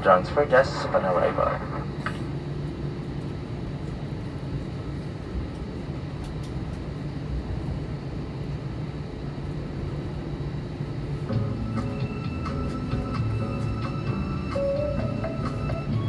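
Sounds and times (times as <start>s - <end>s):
airliner cabin low rumble: 0.0s - 16.0s.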